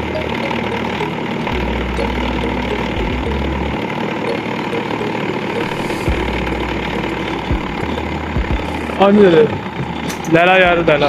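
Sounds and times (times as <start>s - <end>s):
cotton candy machine humming: 0.0s - 11.0s.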